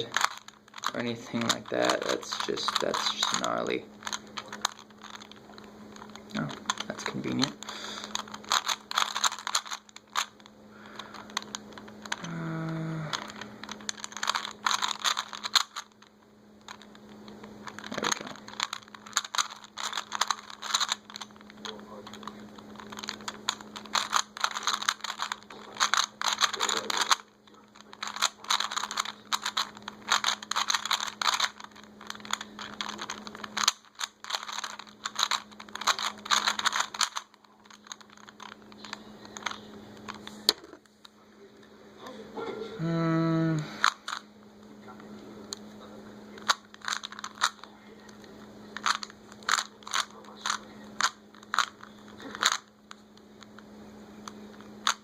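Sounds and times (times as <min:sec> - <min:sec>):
puzzle cube clicking: 0:00.0 - 0:40.9, 0:43.5 - 0:44.2, 0:46.3 - 0:55.0.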